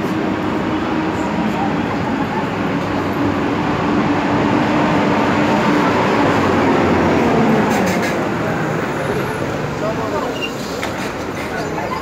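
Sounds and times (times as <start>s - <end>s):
large vehicle engine rumbling: 0.0s - 12.0s.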